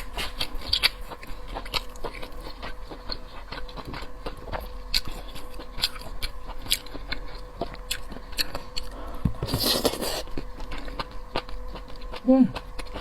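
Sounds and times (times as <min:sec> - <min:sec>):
chewing crunches and wet clicks: 0:00.0 - 0:09.0, 0:09.6 - 0:13.0
faint steady hum: 0:00.0 - 0:13.0.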